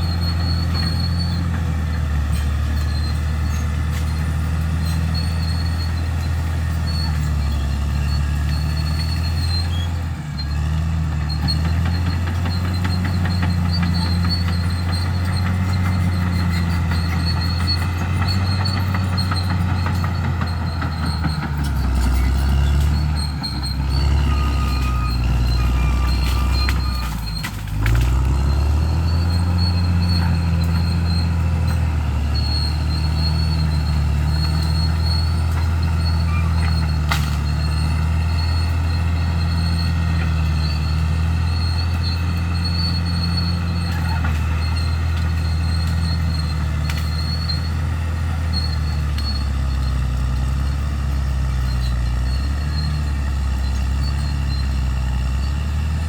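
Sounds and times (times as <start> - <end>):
bulldozer diesel engine running: 0.0 - 56.0
faint high squeal: 0.0 - 56.0.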